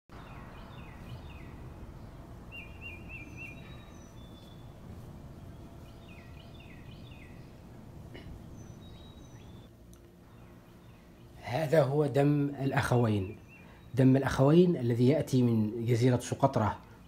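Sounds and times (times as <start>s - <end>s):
low background rumble: 0.1s - 17.0s
small birds chirping: 0.1s - 17.0s.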